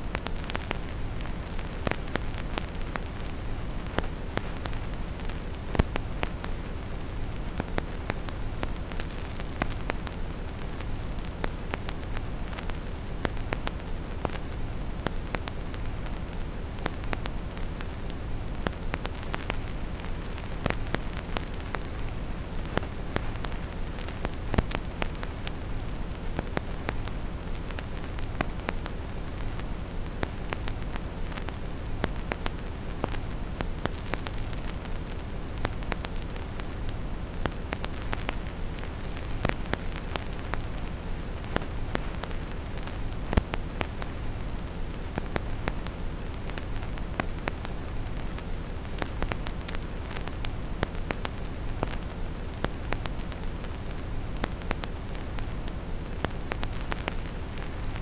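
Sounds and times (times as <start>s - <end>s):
deep steady hiss: 0.0s - 58.0s
vinyl clicks and pops: 0.0s - 58.0s.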